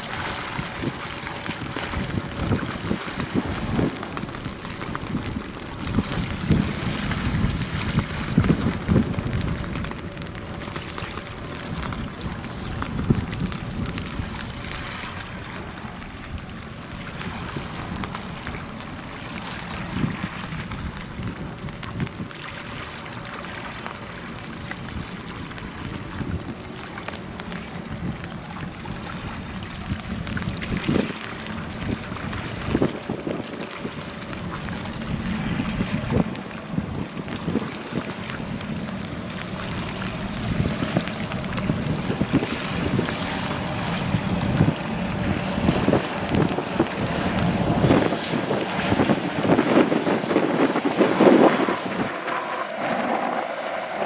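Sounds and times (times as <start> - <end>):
wind buffeting microphone: 0.0 - 22.8, 24.4 - 54.0
jetfoil rushing: 0.0 - 54.0.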